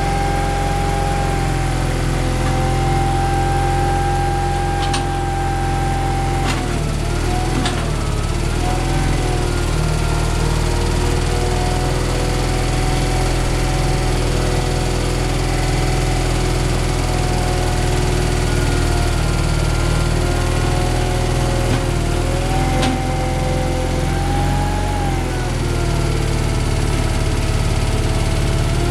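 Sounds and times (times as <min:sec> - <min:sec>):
skid steer engine running: 0:00.0 - 0:28.9.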